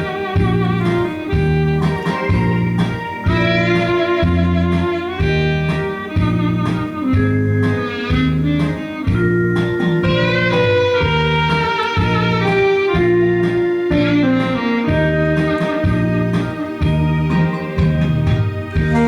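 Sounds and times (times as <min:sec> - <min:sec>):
held melody with vibrato: 0:00.0 - 0:19.0
pulsing bass beat: 0:00.0 - 0:19.0.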